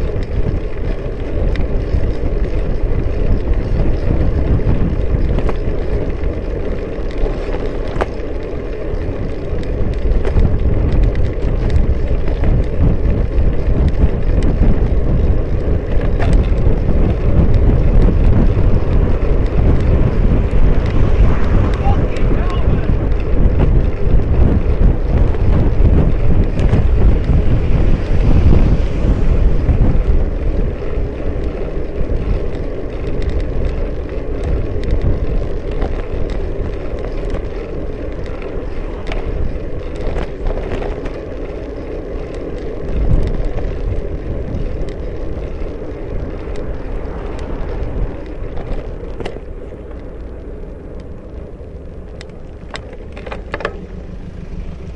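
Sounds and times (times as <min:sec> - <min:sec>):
light clicks and knocks from bike: 0:00.0 - 0:54.9
road and tyre rumble: 0:00.0 - 0:54.9
wind buffeting microphone: 0:00.0 - 0:54.9.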